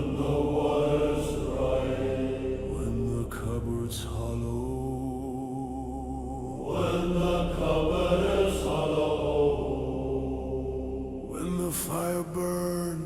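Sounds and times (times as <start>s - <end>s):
steady drone: 0.0s - 12.9s
low chanting voices: 0.0s - 13.0s.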